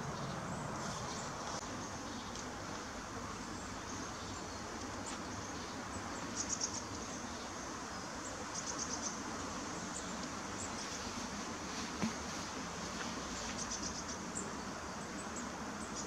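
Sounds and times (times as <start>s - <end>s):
woodland ambience with faint hiss: 0.0s - 16.0s.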